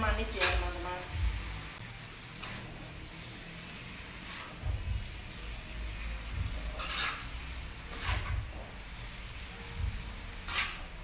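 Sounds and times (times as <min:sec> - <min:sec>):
food sizzling in a wok: 0:00.0 - 0:11.0
metal utensil scraping a wok: 0:00.2 - 0:01.1, 0:01.7 - 0:11.0.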